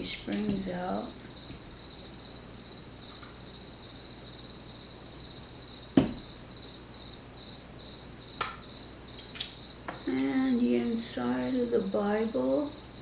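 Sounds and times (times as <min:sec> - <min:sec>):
cricket chirping trill: 0:00.0 - 0:13.0.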